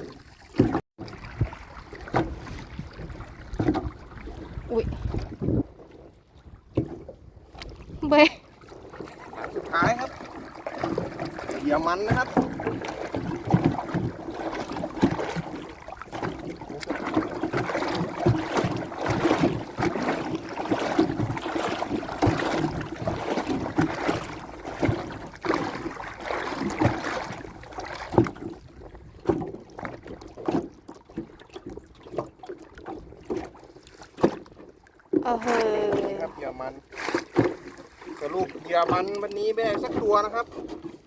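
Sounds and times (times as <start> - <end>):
water splashing and dripping: 0.0 - 6.0, 6.7 - 40.9.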